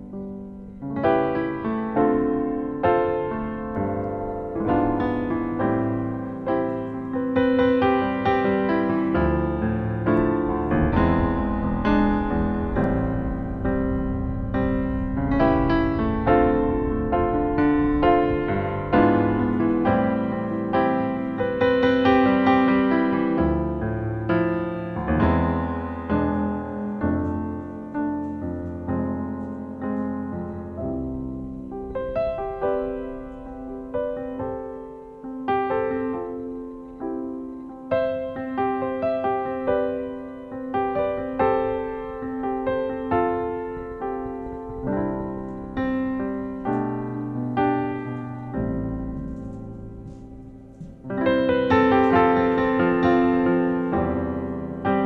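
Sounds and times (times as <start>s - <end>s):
gentle piano music: 0.0s - 55.0s.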